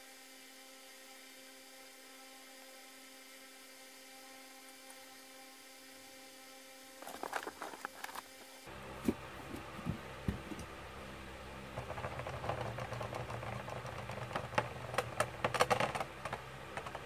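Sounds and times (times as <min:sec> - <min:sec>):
spinning top humming and rattling: 0:00.0 - 0:17.0.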